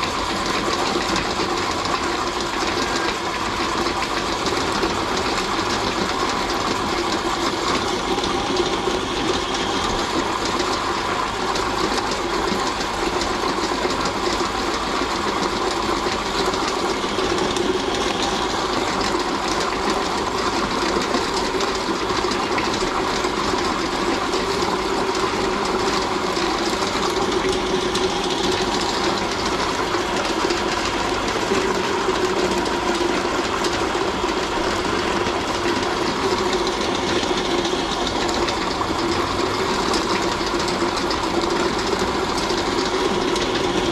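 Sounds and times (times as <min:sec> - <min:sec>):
meat grinder running: 0:00.0 - 0:43.9.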